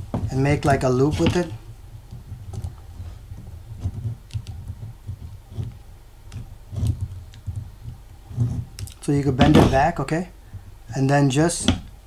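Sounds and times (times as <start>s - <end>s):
soft handling knocks: 0.0s - 10.7s.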